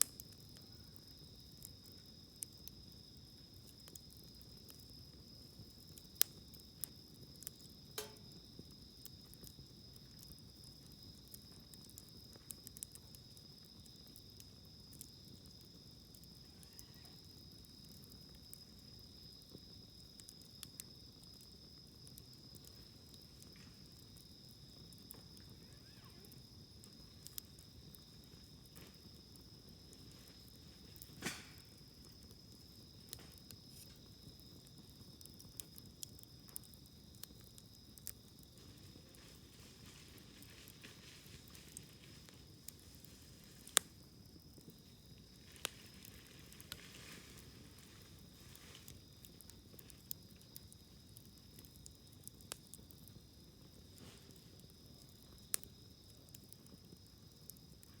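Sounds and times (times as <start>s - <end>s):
campfire crackling and popping: 0.0s - 58.0s
insect trill: 0.0s - 58.0s.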